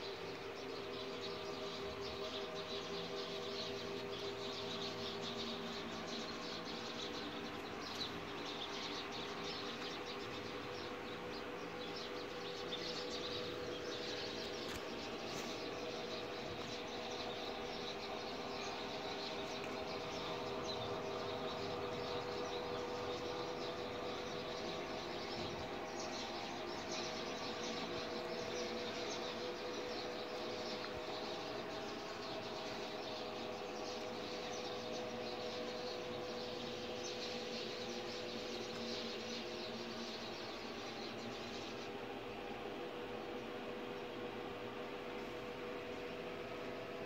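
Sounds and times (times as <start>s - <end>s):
steady outdoor hum: 0.0s - 47.0s.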